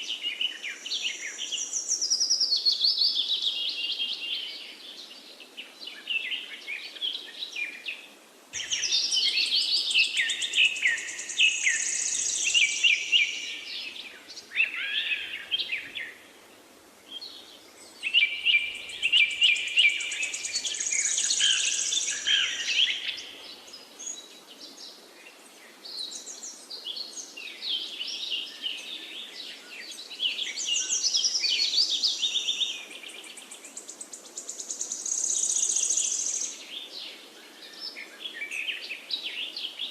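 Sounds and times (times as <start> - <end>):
faint steady hiss: 0.0 - 39.9
songbirds chorus: 0.0 - 39.9.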